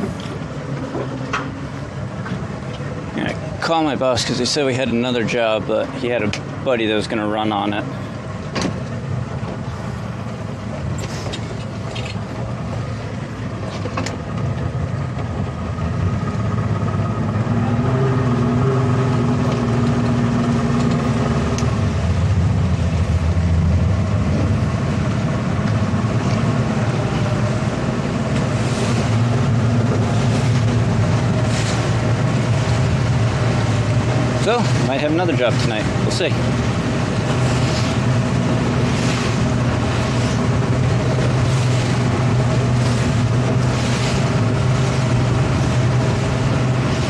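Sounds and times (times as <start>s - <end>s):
boat engines droning: 0.0s - 47.0s.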